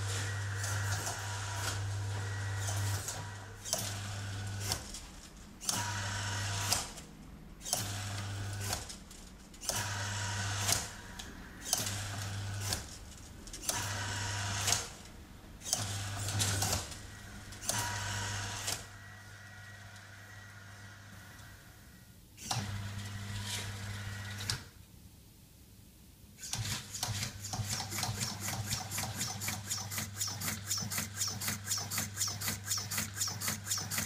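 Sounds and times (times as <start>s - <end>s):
window blind motor humming: 0.0s - 7.1s, 7.7s - 9.0s, 9.6s - 24.7s, 27.1s - 34.0s.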